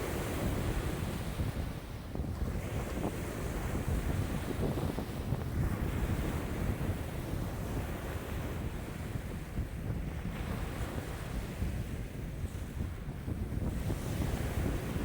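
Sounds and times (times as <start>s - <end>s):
waves breaking on shore: 0.0s - 15.0s
wind buffeting microphone: 0.0s - 15.0s.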